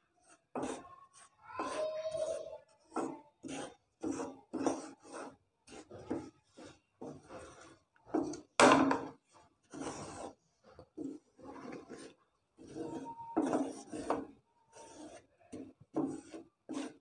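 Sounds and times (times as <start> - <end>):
spoon scraping a pan: 0.0 - 17.0.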